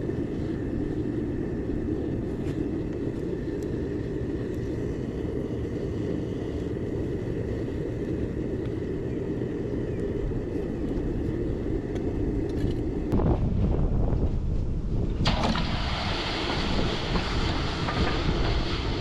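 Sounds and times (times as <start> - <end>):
furnace burner roaring: 0.0 - 19.0.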